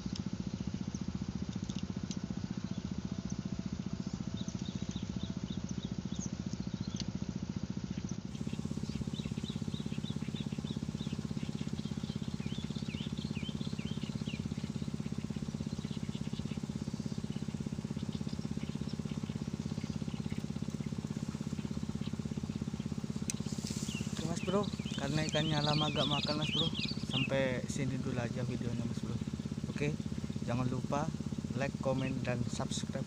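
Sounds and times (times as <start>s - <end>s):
birds chirping: 0.0s - 7.2s, 8.0s - 33.0s
small engine running: 0.0s - 33.0s.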